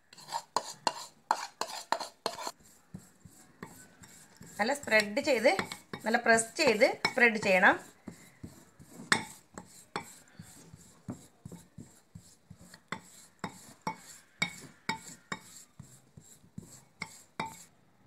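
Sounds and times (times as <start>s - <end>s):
metal spoon scraping glass bowl: 0.0s - 11.6s, 12.2s - 17.7s.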